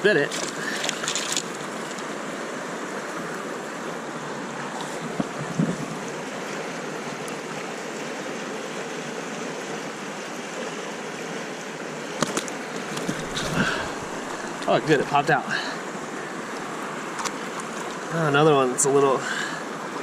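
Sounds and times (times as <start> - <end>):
river current rushing: 0.0 - 20.0.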